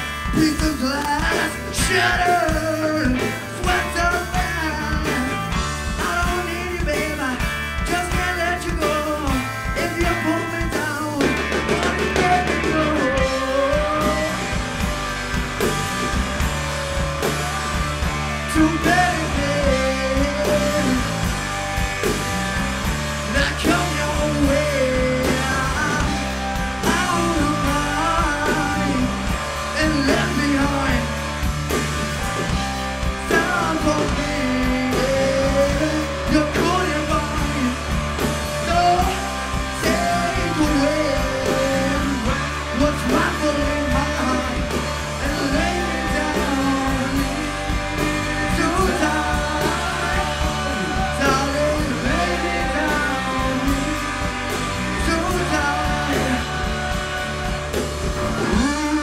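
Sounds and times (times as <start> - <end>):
bass guitar: 0.0 - 59.0
drum kit: 0.0 - 59.0
electric guitars: 0.0 - 59.0
male singer: 0.2 - 14.8, 17.1 - 21.3, 23.3 - 31.2, 33.2 - 37.9, 38.5 - 59.0.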